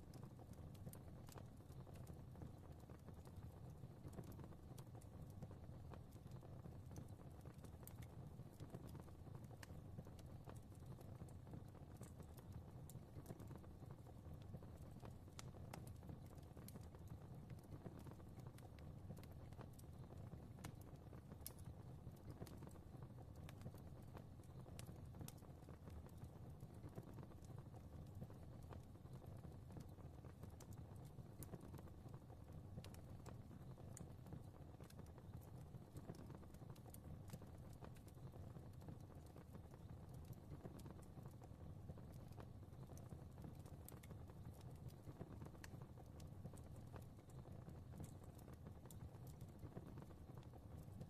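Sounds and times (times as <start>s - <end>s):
fireplace crackling: 0.0s - 51.0s.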